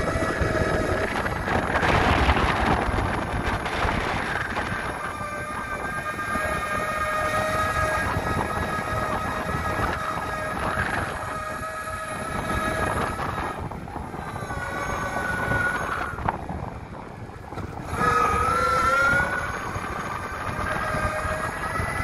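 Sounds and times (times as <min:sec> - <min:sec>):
electric motors whining: 0:00.0 - 0:22.0
wheels rolling rumble: 0:00.0 - 0:22.0.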